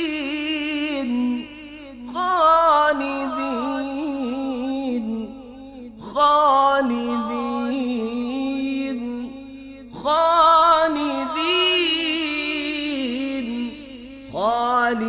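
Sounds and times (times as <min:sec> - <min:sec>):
person reciting melodically: 0:00.0 - 0:15.0.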